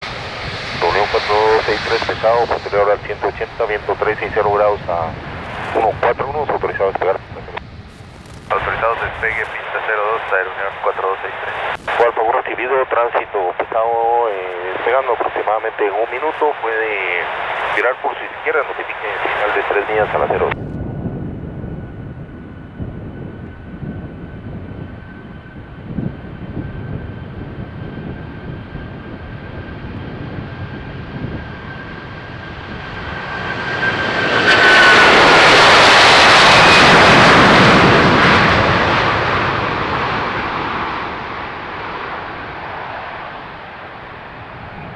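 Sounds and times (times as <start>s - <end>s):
jet engines on takeoff: 0.0s - 44.9s.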